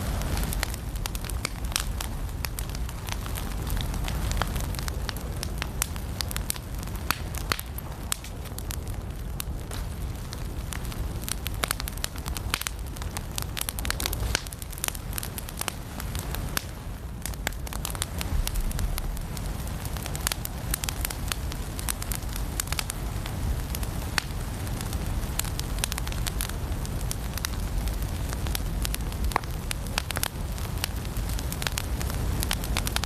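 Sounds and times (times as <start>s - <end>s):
firewood crackling and popping: 0.0s - 33.0s
low steady rumble: 0.0s - 33.0s.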